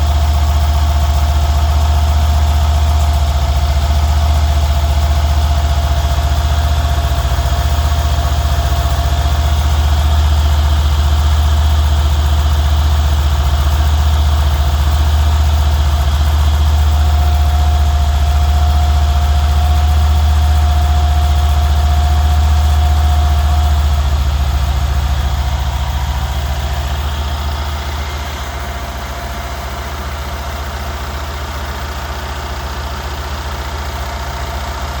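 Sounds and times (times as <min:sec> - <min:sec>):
car engine idling with ticking: 0:00.0 - 0:35.0.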